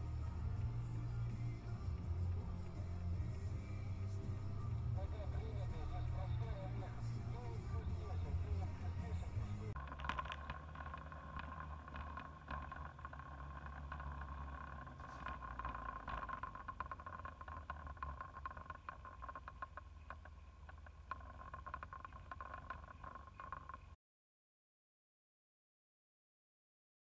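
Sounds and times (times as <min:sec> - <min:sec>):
steady high whine: 0:00.0 - 0:24.0
vehicle road rumble: 0:00.0 - 0:24.0.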